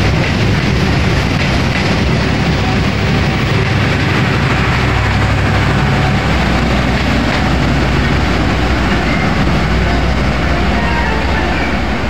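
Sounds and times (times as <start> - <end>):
train power car passing: 0.0 - 12.0
train wheels rumbling on rail: 0.0 - 12.0.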